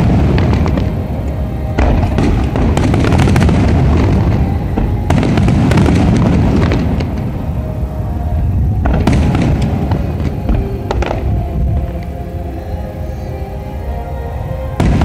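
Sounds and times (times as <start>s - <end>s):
firework shells booming: 0.0s - 12.4s
firework crackling: 0.0s - 15.0s.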